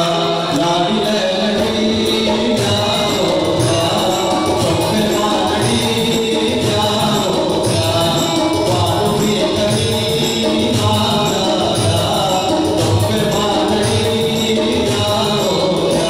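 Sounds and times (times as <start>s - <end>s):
keyboard: 0.0s - 16.0s
man singing into microphone: 0.0s - 16.0s
hand drum beat: 0.6s - 16.0s.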